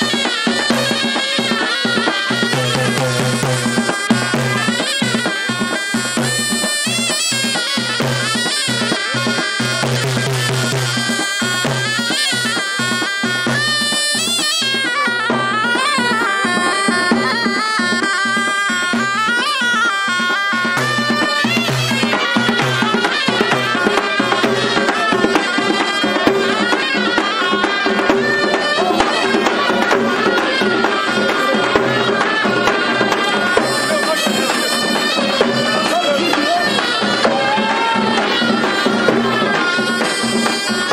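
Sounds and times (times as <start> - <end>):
large drum beat: 0.0 - 40.9
shawms playing ornamented melody: 0.0 - 40.9.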